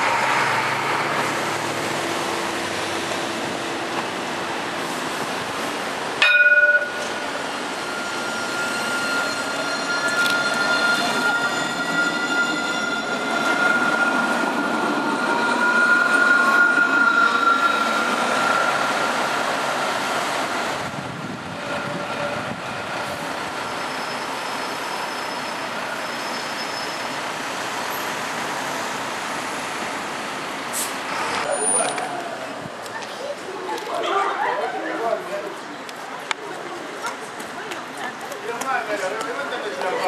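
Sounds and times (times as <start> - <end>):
electric tram whine: 0.0 - 32.8
street noise: 0.0 - 40.0
tram rolling noise: 0.0 - 40.0.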